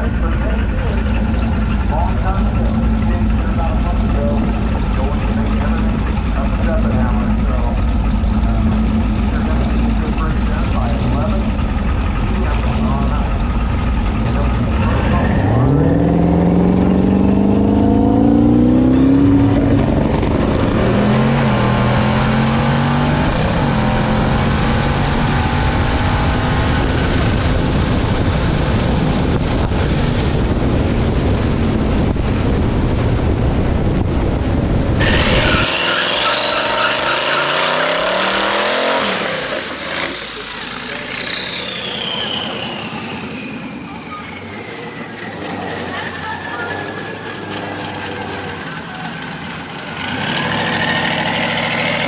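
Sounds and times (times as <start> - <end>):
car engine at full throttle: 0.0 - 52.0
high turbo whine: 0.0 - 52.0.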